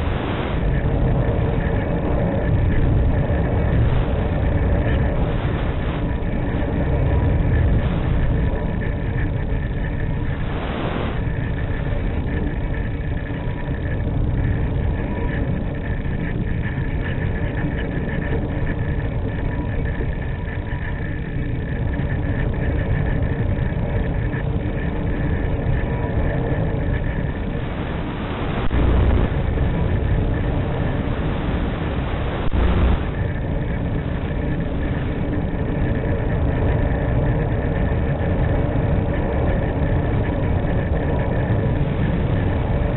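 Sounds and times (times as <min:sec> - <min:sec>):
faint hum tones: 0:00.0 - 0:42.9
wind noise on microphone: 0:00.0 - 0:42.9.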